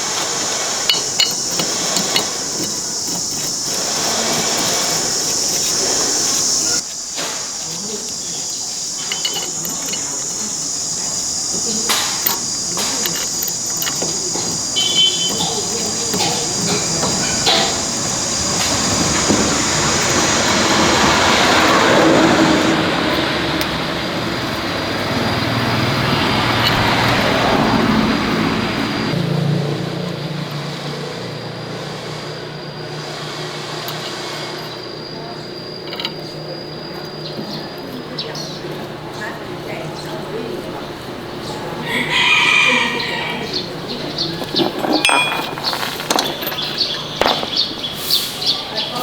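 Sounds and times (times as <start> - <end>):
vehicle engine running: 0.0 - 42.2, 42.8 - 48.9
insects chirping: 0.0 - 49.0.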